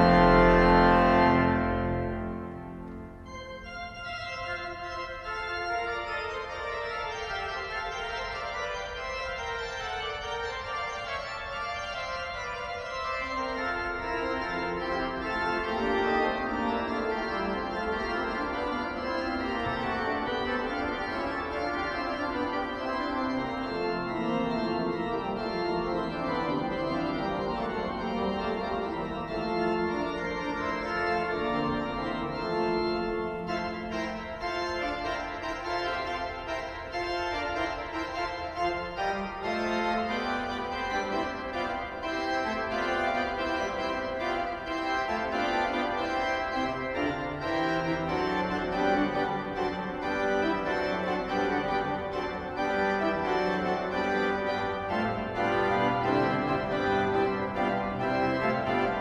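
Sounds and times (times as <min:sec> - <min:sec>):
pipe organ chords: 0:00.0 - 0:59.0.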